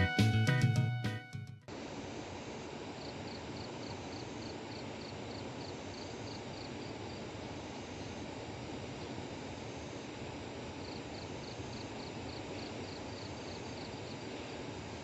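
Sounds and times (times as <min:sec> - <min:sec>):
steady outdoor hiss: 0:00.0 - 0:01.0, 0:01.7 - 0:15.0.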